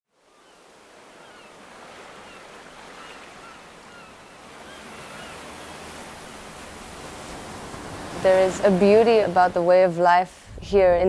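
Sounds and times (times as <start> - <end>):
surf and waves on a beach: 0.1 - 11.0.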